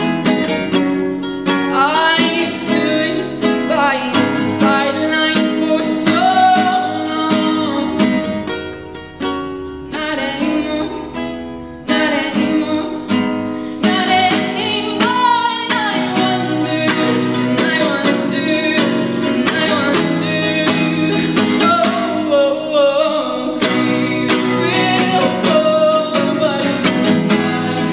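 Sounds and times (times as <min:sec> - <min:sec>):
nylon-string guitar strumming: 0:00.0 - 0:27.9
girl singing: 0:01.7 - 0:08.4, 0:09.8 - 0:27.9.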